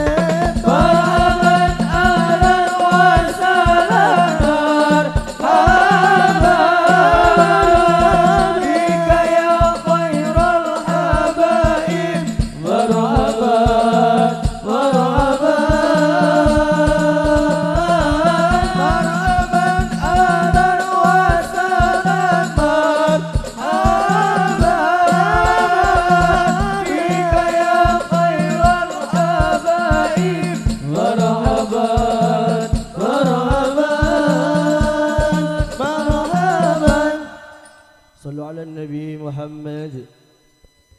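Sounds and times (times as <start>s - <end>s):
frame drums beating: 0.0s - 37.3s
person singing ornamented lines: 0.0s - 40.1s.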